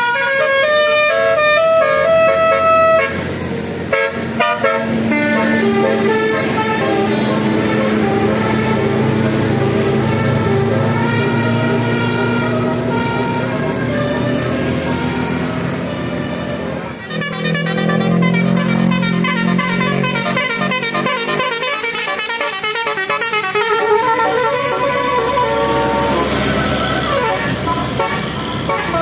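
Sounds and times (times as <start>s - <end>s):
bus air horn playing a melody: 0.0s - 29.0s
noisy vehicle sound: 0.0s - 29.0s.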